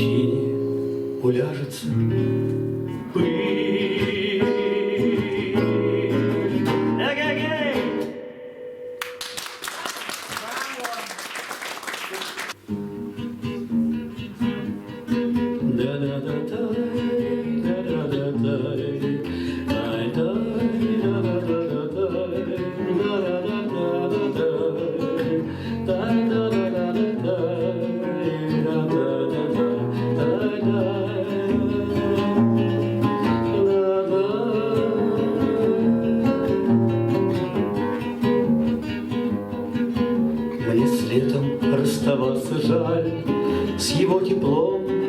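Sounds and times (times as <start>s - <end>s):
acoustic guitar strumming and picking: 0.0s - 9.2s, 12.6s - 45.0s.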